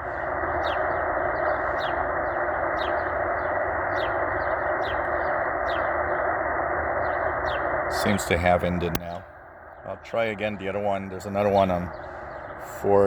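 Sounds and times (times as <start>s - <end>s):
bird chirping: 0.0s - 13.0s
shortwave radio hiss: 0.0s - 13.0s.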